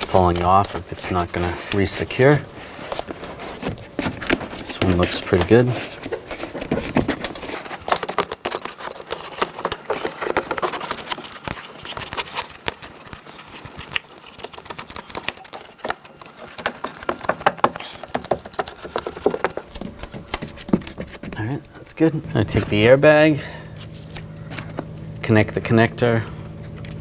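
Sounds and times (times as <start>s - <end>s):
plastic sheet crinkling: 0.0s - 25.0s.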